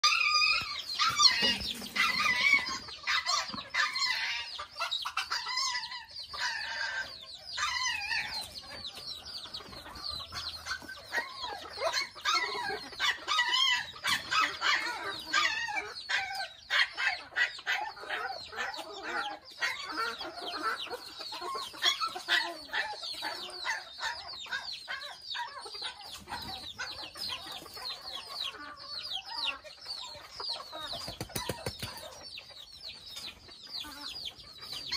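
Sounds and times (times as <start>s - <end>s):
chickens clucking: 0.0s - 34.9s
chicks high calls: 0.0s - 34.9s.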